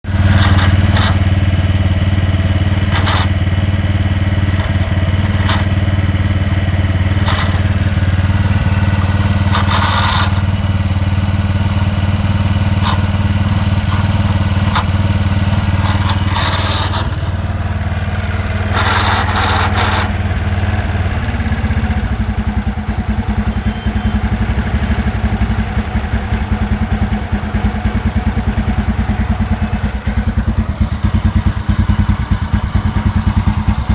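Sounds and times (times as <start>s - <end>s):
scooter engine running: 0.0s - 33.9s
rattling bursts: 0.1s - 33.9s.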